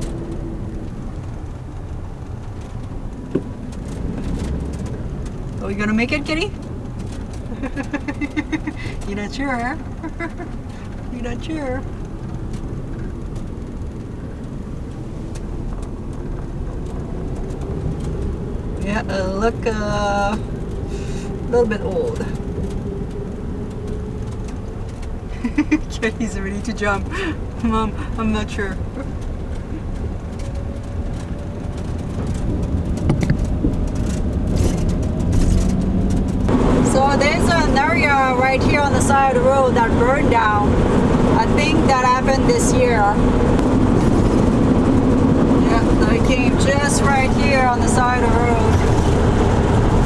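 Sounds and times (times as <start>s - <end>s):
engine and road rumble: 0.0s - 50.0s
light clicks and rattles: 0.0s - 50.0s.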